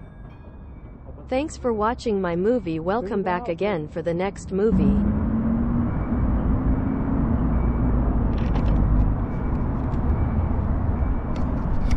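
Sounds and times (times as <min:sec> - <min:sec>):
tram rumbling: 0:00.0 - 0:11.9.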